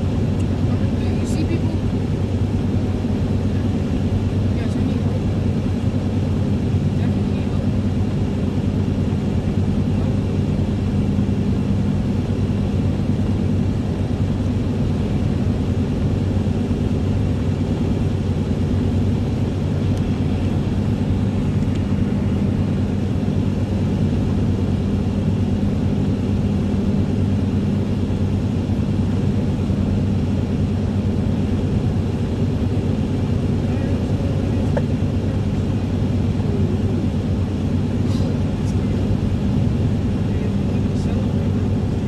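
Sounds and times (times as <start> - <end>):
vehicle engine hum: 0.0 - 42.0.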